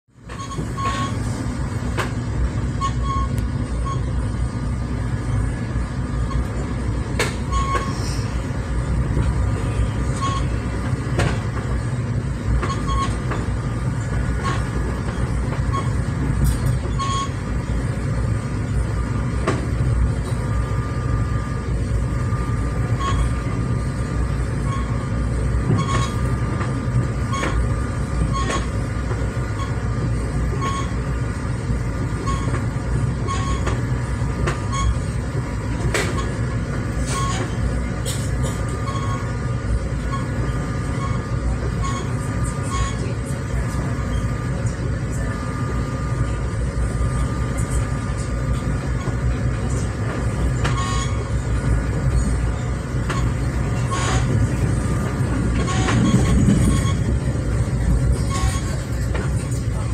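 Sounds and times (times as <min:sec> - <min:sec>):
train rumbling on rails: 0:00.1 - 0:59.9
freight train rolling past: 0:00.2 - 0:59.9.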